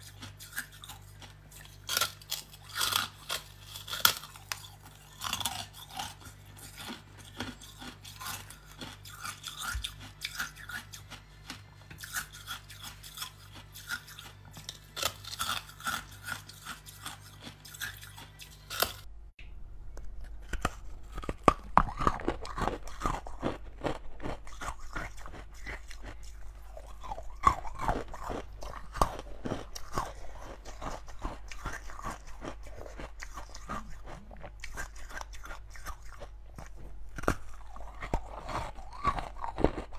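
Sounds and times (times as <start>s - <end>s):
ice being chewed: 0.0s - 19.1s, 20.2s - 39.9s.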